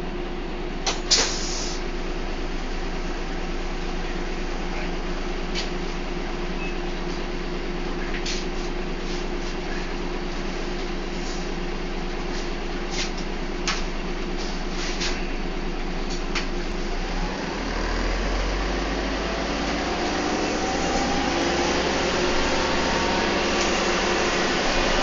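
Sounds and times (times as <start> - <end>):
bus engine and road drone: 0.0 - 25.0.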